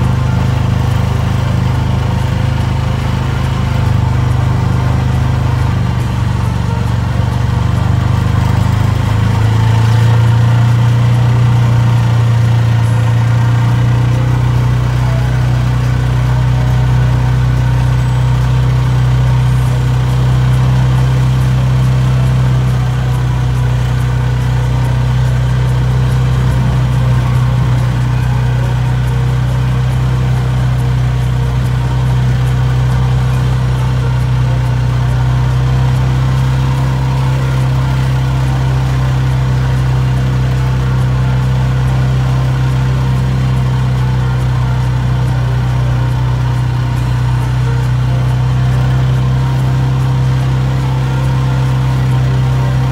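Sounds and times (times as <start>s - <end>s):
vehicle engine droning: 0.0s - 52.9s.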